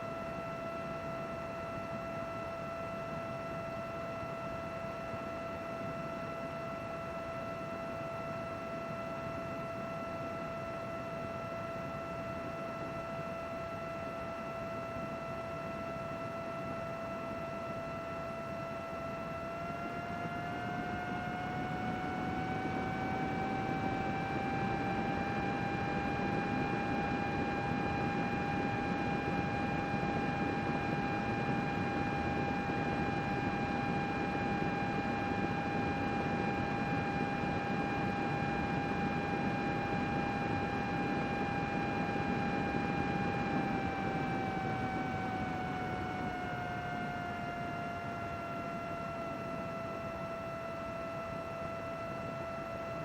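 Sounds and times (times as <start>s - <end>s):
computer cooling fan whine: 0.0s - 53.0s.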